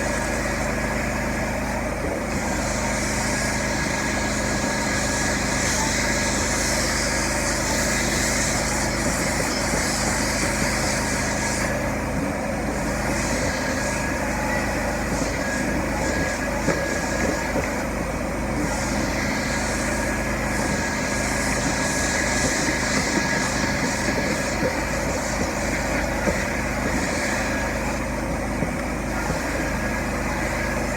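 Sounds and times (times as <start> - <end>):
carpet extraction machine running: 0.0 - 30.9
high hiss of spray and suction: 2.3 - 11.9, 12.7 - 30.9.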